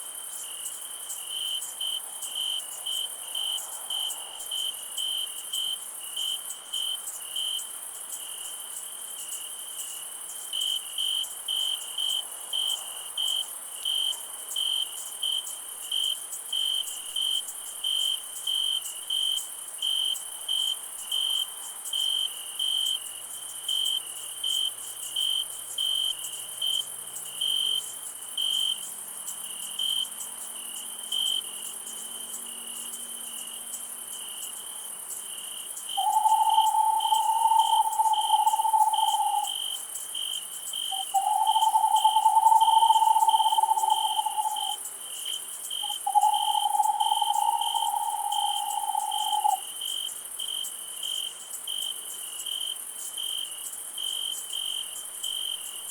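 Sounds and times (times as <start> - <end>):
cricket chirping: 0.0 - 55.9
high-pitched insect chorus: 0.0 - 55.9.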